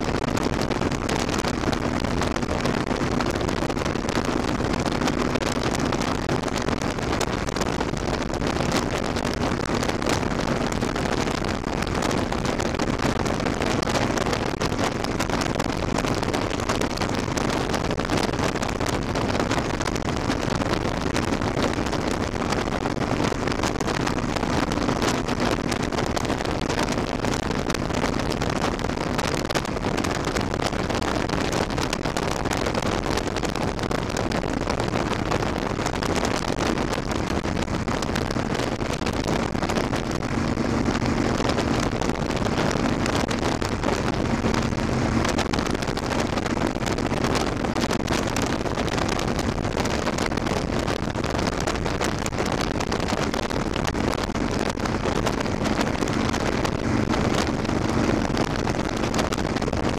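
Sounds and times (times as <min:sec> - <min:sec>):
motorcycle engine drone: 0:00.0 - 0:59.9
wind rushing over microphone: 0:00.0 - 0:59.9.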